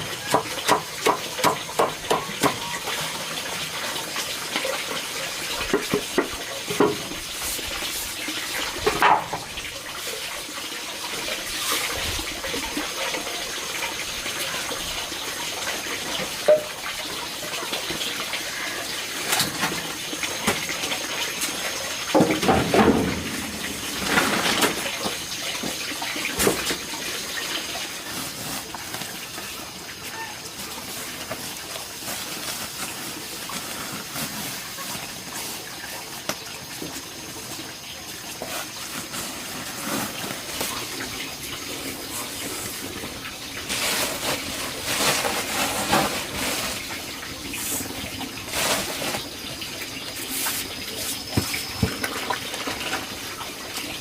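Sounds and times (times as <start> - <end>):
water running and splashing: 0.0 - 54.0.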